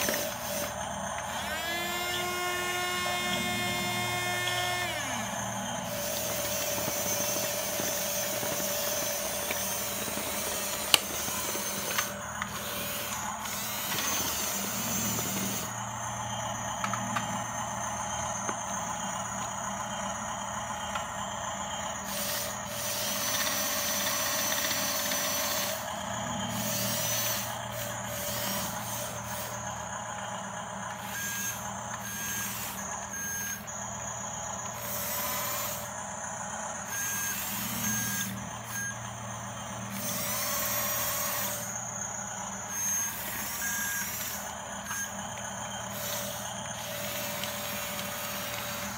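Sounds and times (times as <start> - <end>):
toy bulldozer motors whirring: 0.0 - 48.9.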